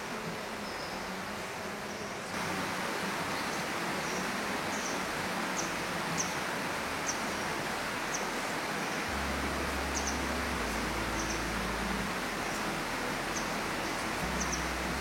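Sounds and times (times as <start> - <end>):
steady rushing noise: 1.3 - 15.0.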